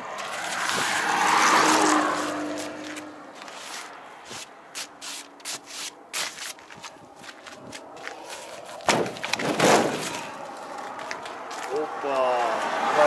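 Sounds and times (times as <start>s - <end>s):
footsteps crunching on ice: 0.1s - 9.4s, 10.0s - 12.7s.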